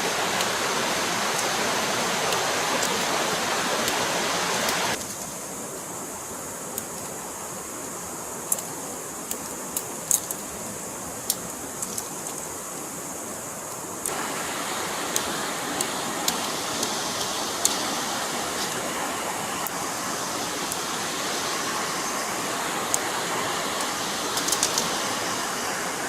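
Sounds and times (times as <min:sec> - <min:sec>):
forest stream rushing: 0:00.0 - 0:26.0.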